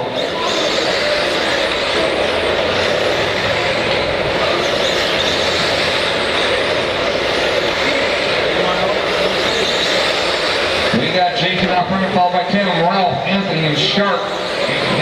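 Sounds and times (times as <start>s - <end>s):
remote control trucks racing: 0.0s - 15.0s.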